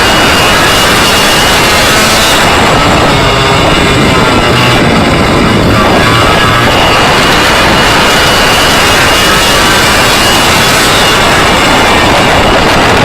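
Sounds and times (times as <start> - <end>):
kart engine revving: 0.0 - 13.0.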